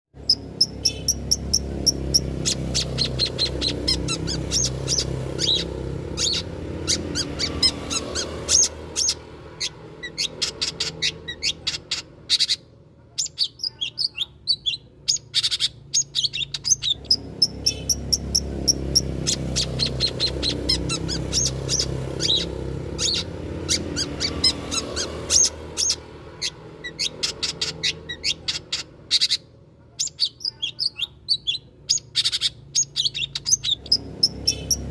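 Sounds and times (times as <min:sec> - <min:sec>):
bird singing high chattering chirps: 0:00.1 - 0:34.9.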